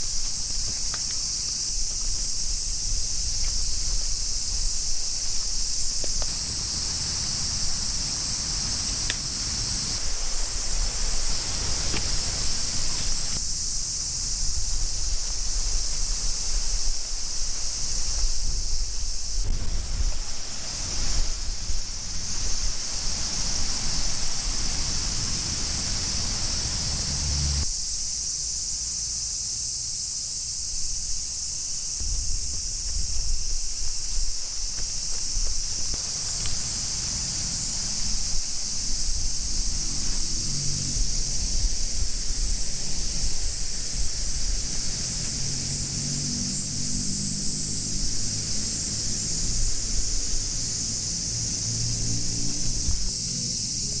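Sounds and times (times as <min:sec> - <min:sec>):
wind rumble on microphone: 0:00.0 - 0:27.7, 0:31.8 - 0:47.0, 0:47.6 - 0:54.0
cicadas droning: 0:00.0 - 0:54.0.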